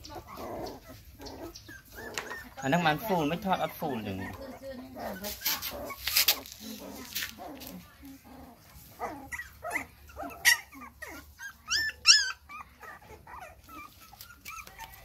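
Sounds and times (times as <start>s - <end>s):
puppy whimpering: 0.0s - 15.0s.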